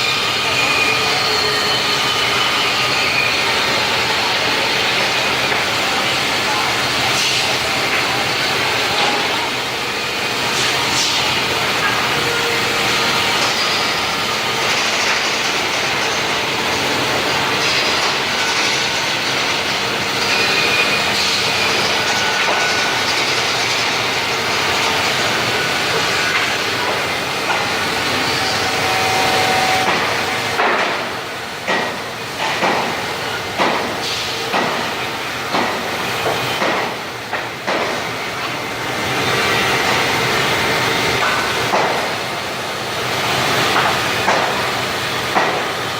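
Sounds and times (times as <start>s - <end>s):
band saw running: 0.0s - 45.9s.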